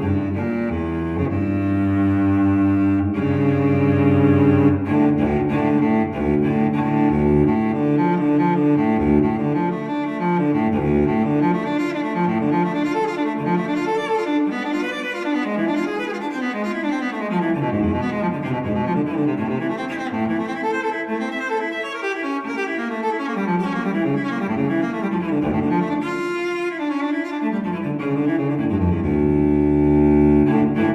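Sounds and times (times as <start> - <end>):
bowed cello melody: 0.0 - 30.9.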